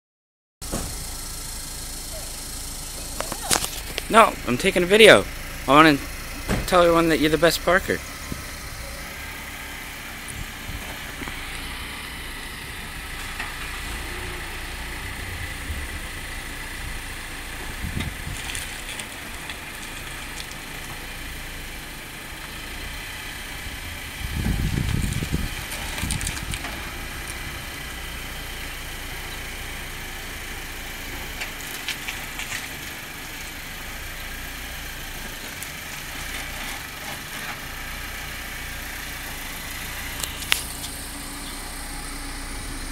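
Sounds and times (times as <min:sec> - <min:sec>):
car engine idling: 0:00.6 - 0:42.9.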